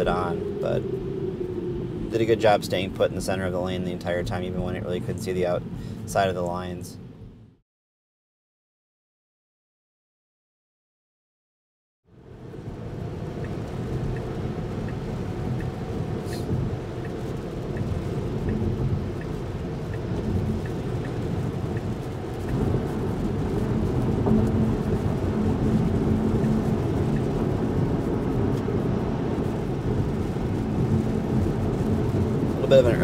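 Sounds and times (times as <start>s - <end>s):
car cabin road rumble: 0.0s - 7.6s, 12.2s - 33.0s.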